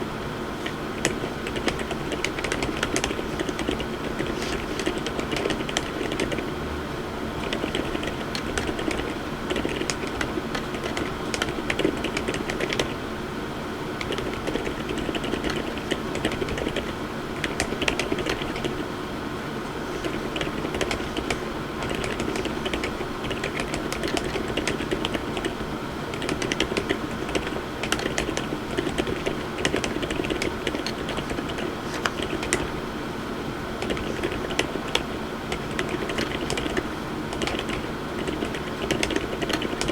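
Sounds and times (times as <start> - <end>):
mechanical keyboard typing: 0.6 - 6.5, 7.4 - 13.0, 14.0 - 18.8, 20.0 - 32.7, 33.8 - 39.9.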